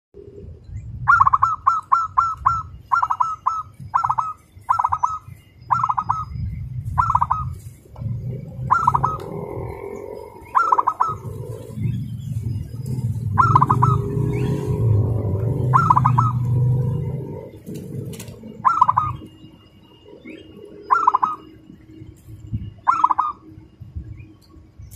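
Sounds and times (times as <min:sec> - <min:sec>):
dove cooing song: 0:00.2 - 0:24.1
low background rumble: 0:00.2 - 0:24.9.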